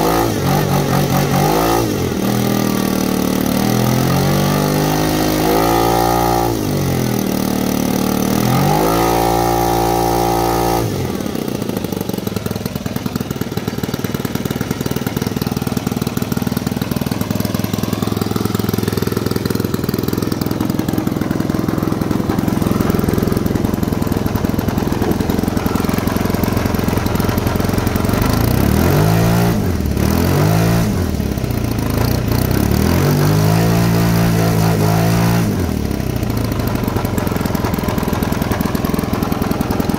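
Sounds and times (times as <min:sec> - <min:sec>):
model airplane engine running: 0:00.4 - 0:05.4, 0:06.1 - 0:30.0, 0:35.6 - 0:39.9.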